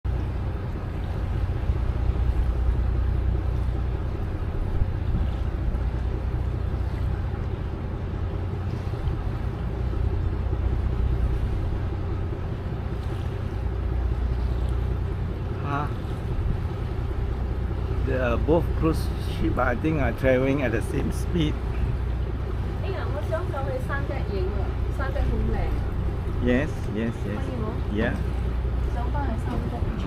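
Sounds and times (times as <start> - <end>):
boat engine drone: 0.0 - 30.0.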